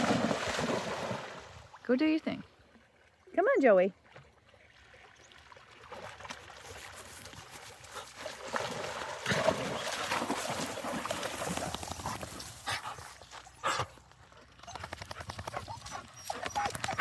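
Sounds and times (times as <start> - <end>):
dogs splashing through water: 0.0 - 1.9, 3.2 - 17.0.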